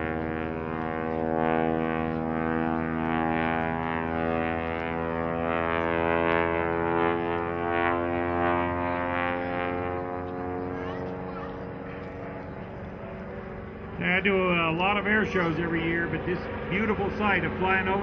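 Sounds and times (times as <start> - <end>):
propeller airplane droning: 0.0 - 18.0.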